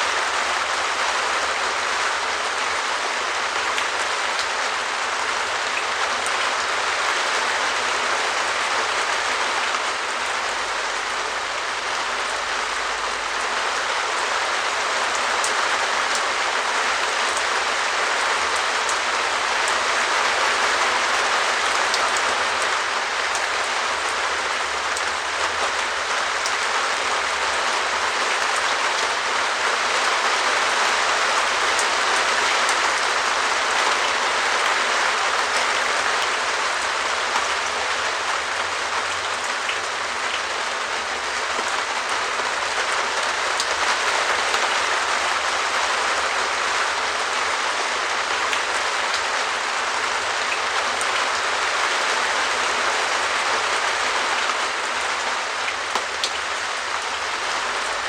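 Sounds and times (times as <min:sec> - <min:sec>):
rain pattering on plastic roof: 0:00.0 - 0:58.0.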